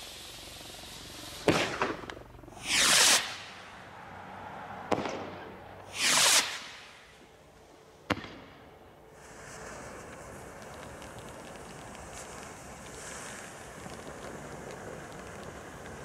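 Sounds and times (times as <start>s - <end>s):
firework bursting with sharp crack: 0.0s - 3.9s, 4.9s - 7.2s, 8.1s - 8.6s, 9.2s - 16.0s
firework whooshing up: 0.0s - 7.3s, 9.1s - 16.0s.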